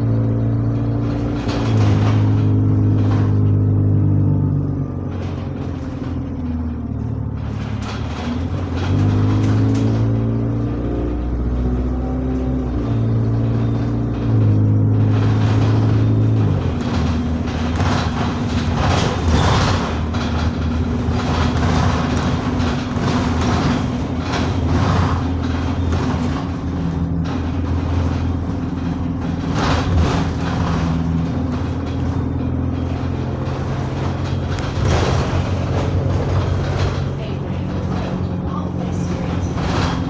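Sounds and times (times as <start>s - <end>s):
bus engine running: 0.0s - 40.0s
knocks and rattles: 0.0s - 40.0s.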